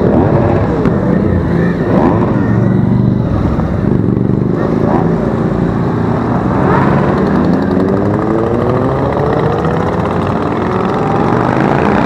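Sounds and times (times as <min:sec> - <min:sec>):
motorcycle accelerating: 0:00.0 - 0:12.0
motorcycles riding past: 0:00.0 - 0:12.0.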